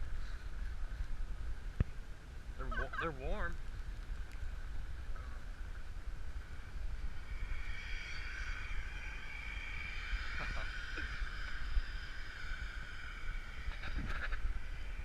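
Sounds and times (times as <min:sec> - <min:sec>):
high-pitched whine: 0:02.5 - 0:15.0.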